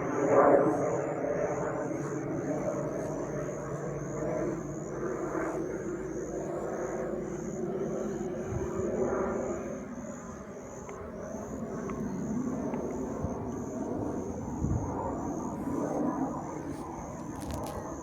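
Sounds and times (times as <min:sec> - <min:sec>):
passing aircraft engine: 0:00.0 - 0:18.0.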